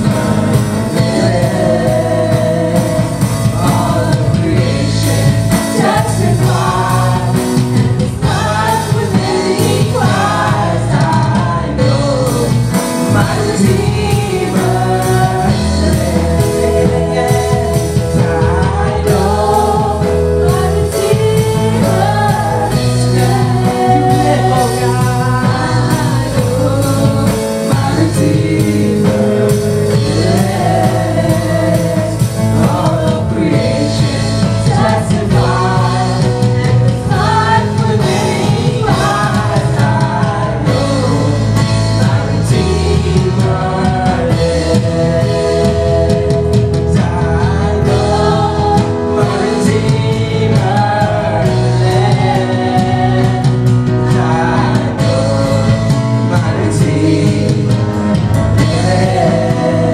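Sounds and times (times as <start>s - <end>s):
instrumental accompaniment with bass: 0.0s - 59.9s
voices singing gospel song: 0.0s - 59.9s.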